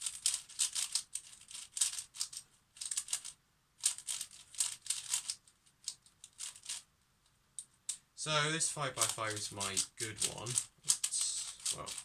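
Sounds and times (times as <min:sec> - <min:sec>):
puzzle cube layers clicking: 0:00.0 - 0:06.8, 0:08.9 - 0:12.0.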